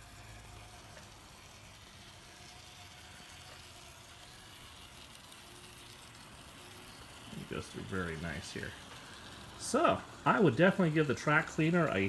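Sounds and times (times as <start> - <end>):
model tram motor whirring: 0.0 - 12.0.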